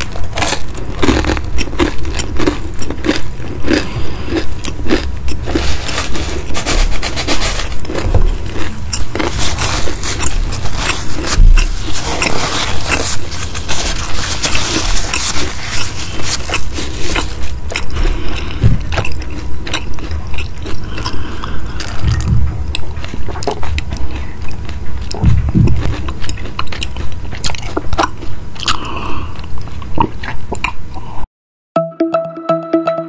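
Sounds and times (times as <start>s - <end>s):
chewing crispy chicken: 0.0s - 31.0s.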